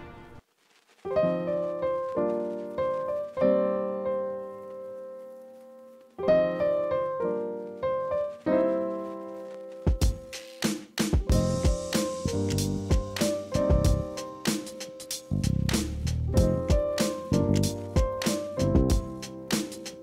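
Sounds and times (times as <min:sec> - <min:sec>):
piano chords: 0:01.1 - 0:10.4, 0:11.2 - 0:20.0.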